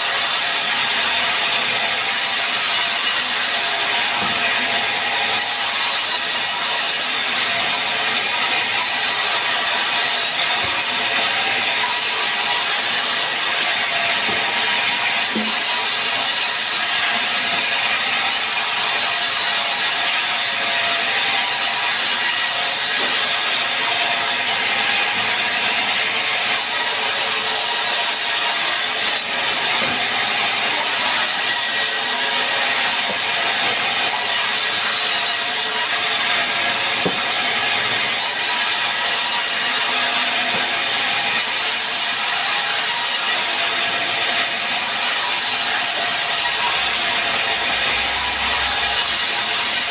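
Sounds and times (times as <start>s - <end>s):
band saw cutting wood: 0.0s - 49.9s.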